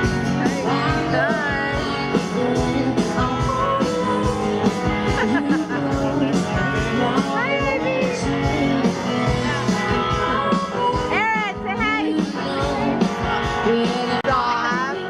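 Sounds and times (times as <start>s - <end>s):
live rock band with guitar: 0.0s - 15.0s.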